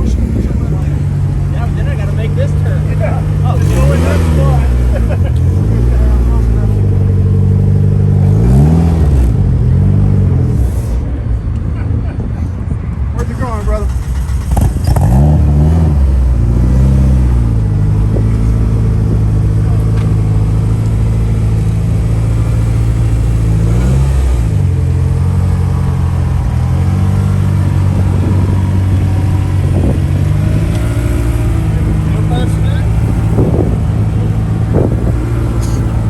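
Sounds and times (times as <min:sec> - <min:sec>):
car engine revving: 0:00.0 - 0:11.8, 0:13.2 - 0:36.0.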